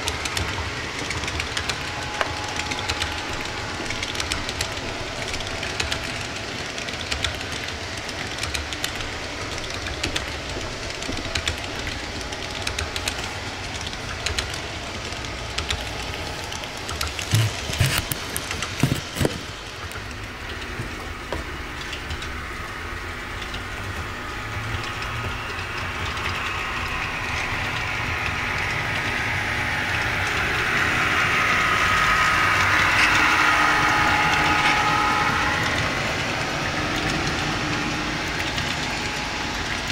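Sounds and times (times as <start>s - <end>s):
model train rolling rumble: 0.0s - 39.9s
train whine: 0.0s - 39.9s
wheels clicking over rail joints: 0.0s - 39.9s.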